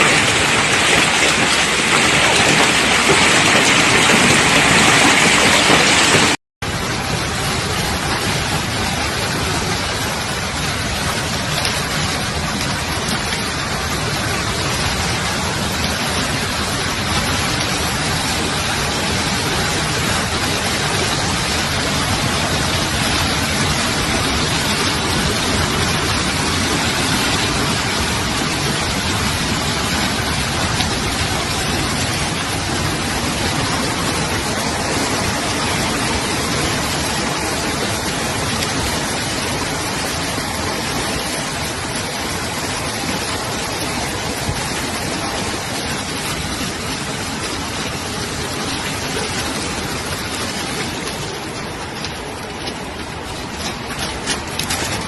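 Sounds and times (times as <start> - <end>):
hail and heavy rain pelting: 0.0 - 55.0.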